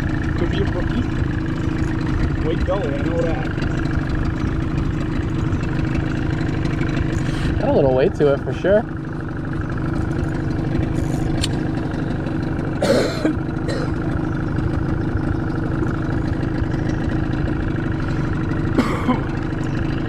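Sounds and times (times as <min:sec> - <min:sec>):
boat motor idling: 0:00.0 - 0:20.0.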